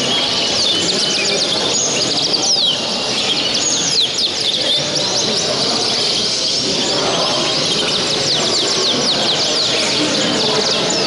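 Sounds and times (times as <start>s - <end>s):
canaries singing: 0.0s - 11.0s
murmur of voices: 0.0s - 11.0s.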